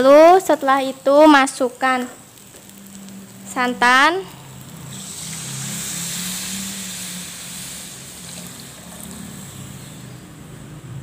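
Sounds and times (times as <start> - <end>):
liquid sizzling in a wok: 0.0 - 11.0.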